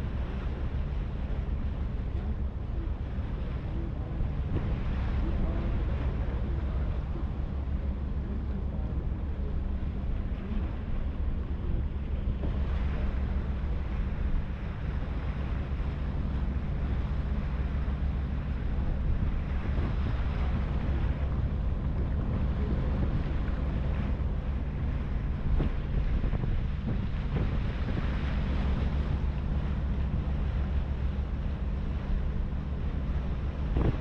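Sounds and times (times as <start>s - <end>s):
ferry engine drone: 0.0s - 34.0s
water rushing along hull: 0.0s - 34.0s
wind buffeting microphone: 0.0s - 34.0s.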